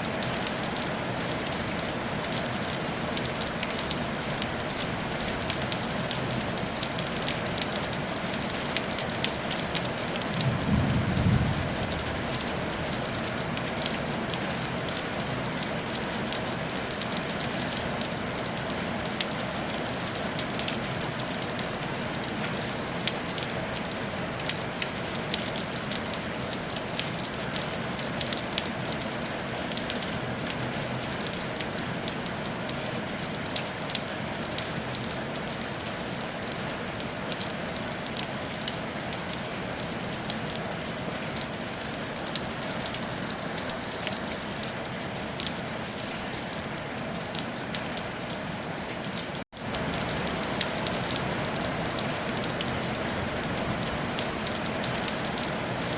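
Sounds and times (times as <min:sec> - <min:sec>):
rain on a tile roof: 0:00.0 - 0:55.9.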